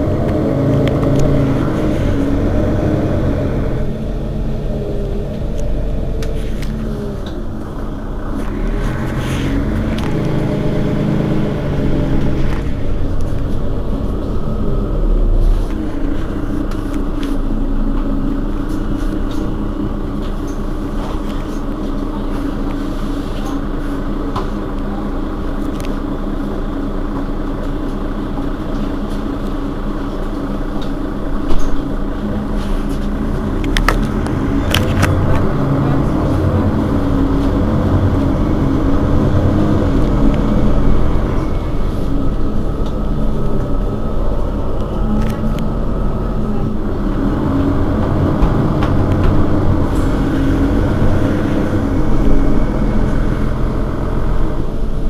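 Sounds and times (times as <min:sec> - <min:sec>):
bus diesel engine idling: 0:00.0 - 0:55.0
deep rumble: 0:00.0 - 0:55.0.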